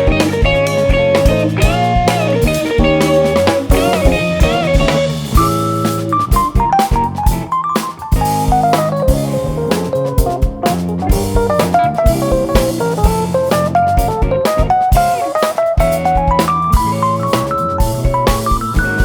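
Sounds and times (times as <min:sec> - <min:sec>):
drum kit: 0:00.0 - 0:19.0
electric guitar melody: 0:00.0 - 0:19.0
jazz fusion band playing: 0:00.0 - 0:19.0.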